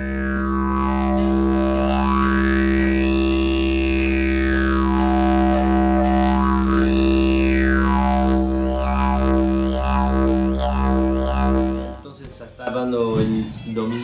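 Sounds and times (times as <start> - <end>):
didgeridoo drone: 0.0 - 12.1.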